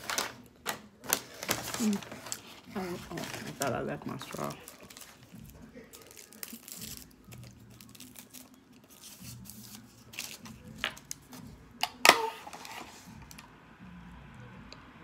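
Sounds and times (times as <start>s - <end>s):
paper wrapper crinkling and tearing: 0.0s - 13.4s.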